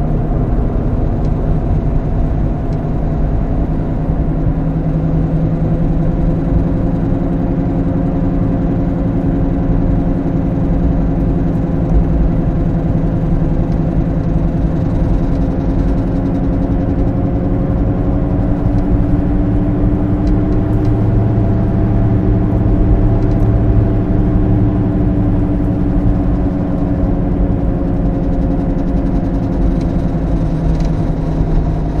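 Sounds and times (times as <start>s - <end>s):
car wheel bearing drone: 0.0s - 32.0s.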